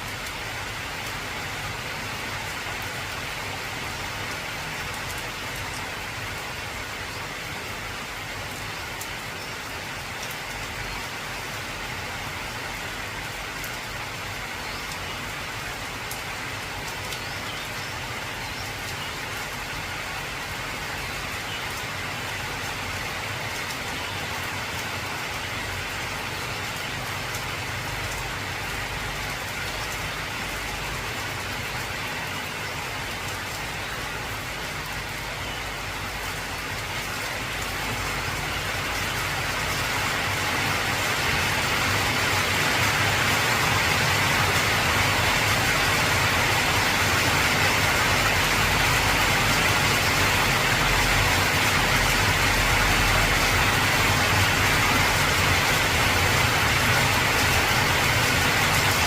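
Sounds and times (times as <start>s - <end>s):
heavy rain on metal roof: 0.0s - 59.0s.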